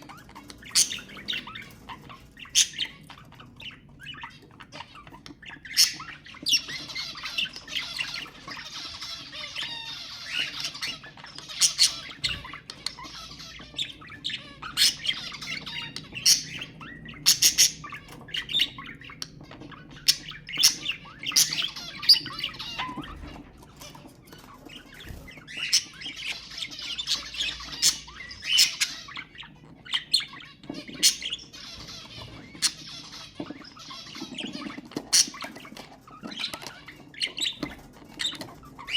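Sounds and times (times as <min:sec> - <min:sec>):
bird squawks: 0:00.0 - 0:38.9
budgerigars chattering and warbling: 0:00.0 - 0:38.9.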